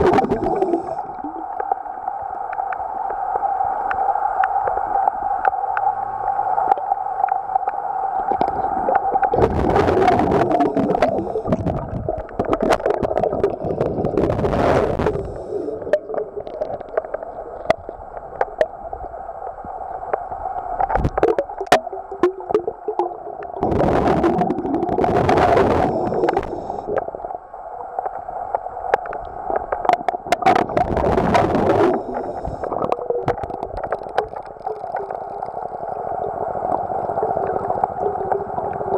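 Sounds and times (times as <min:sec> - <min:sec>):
gurgling rushes of water: 0:00.0 - 0:38.9
underwater steady hum: 0:00.0 - 0:38.9.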